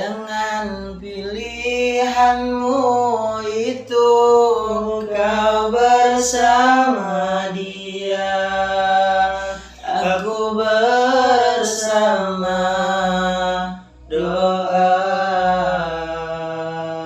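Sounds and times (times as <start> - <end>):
person singing wordless chant: 0.0 - 17.0.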